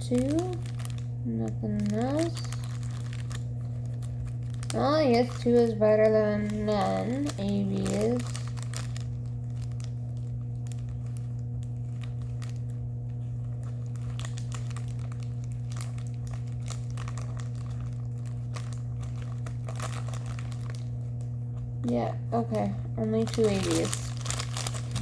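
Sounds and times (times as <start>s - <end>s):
low electrical hum: 0.0s - 25.0s
plastic bags crinkling: 0.0s - 25.0s.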